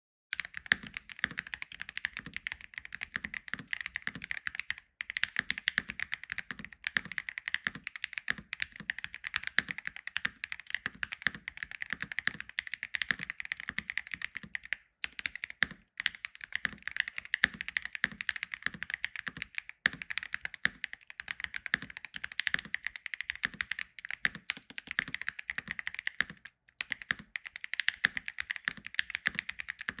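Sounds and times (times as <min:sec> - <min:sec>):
fast typing on mechanical keyboard: 0:00.3 - 0:30.0.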